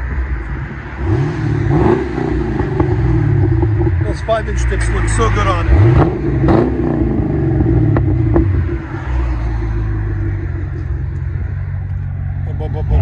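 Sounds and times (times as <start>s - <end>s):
car engine revving and idling: 0.0s - 13.0s.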